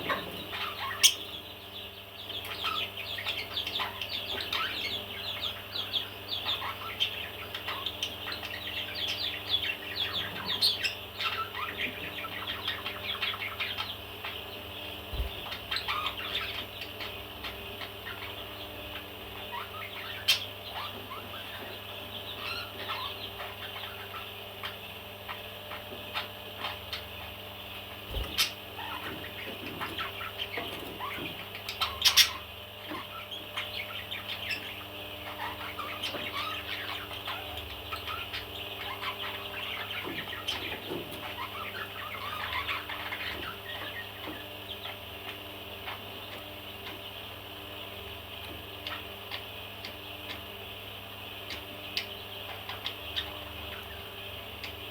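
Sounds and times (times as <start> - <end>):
parrots chirping and chattering: 0.0 - 54.9.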